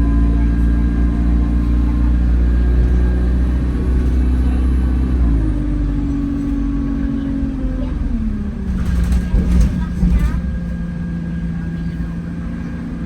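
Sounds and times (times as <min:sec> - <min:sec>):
bus engine drone from inside: 0:00.0 - 0:13.0.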